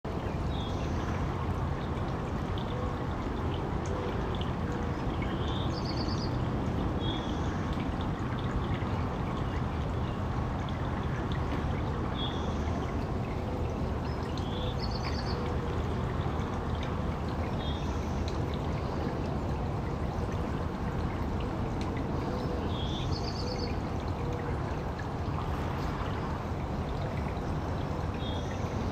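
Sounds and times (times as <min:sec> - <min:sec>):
fountain water splashing: 0:00.1 - 0:28.9.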